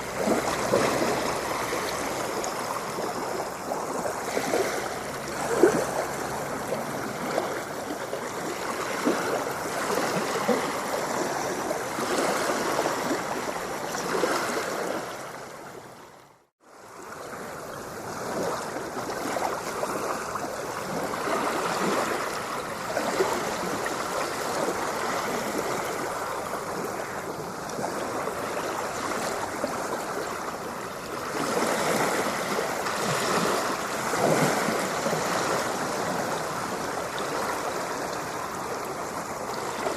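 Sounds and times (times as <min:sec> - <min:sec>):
ocean water splashing: 0:00.0 - 0:39.9.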